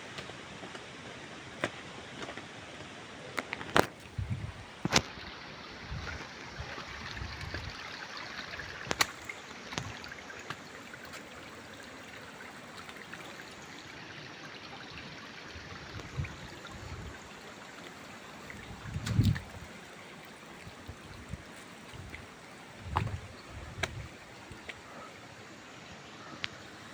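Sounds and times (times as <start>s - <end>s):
stream trickling: 3.4s - 26.9s.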